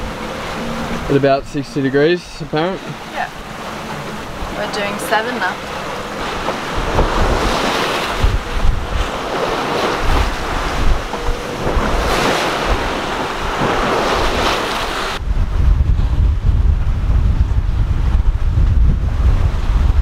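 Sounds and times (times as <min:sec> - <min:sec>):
sea water rushing past a boat: 0:00.0 - 0:20.0
wind buffeting microphone: 0:00.0 - 0:20.0.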